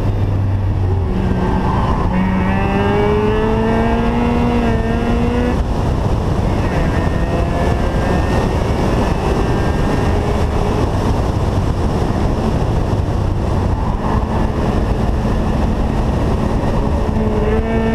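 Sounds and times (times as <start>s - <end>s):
car engine droning: 0.0s - 17.9s
wind and road noise: 0.0s - 17.9s.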